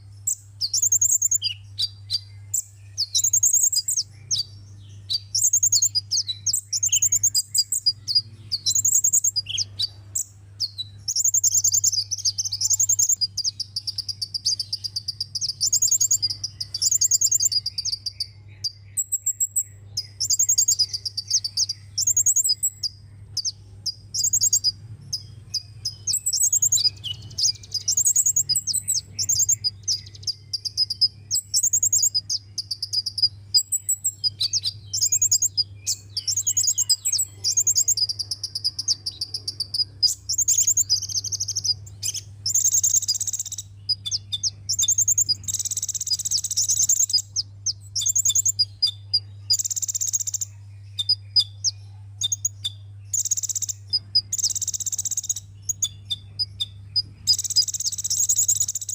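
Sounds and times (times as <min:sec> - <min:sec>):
bird twittering trills: 0:00.0 - 0:58.9
faint low hum: 0:00.0 - 0:58.9.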